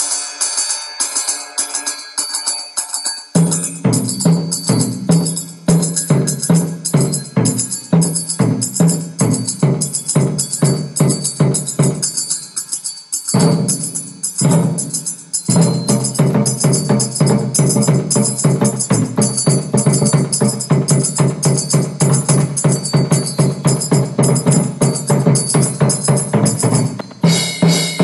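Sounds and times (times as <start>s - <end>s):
percussion beat: 0.0s - 28.0s.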